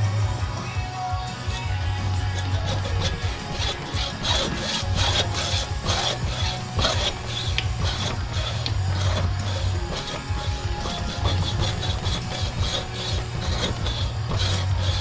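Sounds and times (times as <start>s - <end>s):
metal tool scraping: 1.8s - 15.0s.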